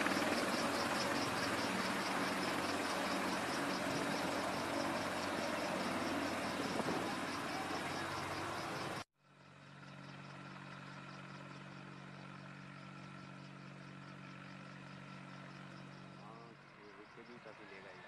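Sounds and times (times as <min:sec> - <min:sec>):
helicopter engines and rotors: 0:00.0 - 0:18.0.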